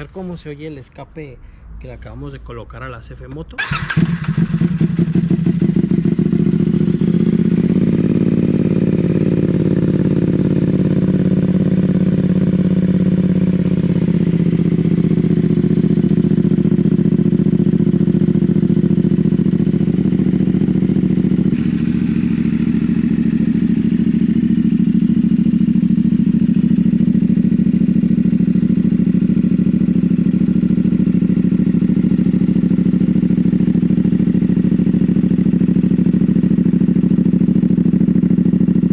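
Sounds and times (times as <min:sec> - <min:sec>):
motorcycle idling: 0:02.9 - 0:38.9.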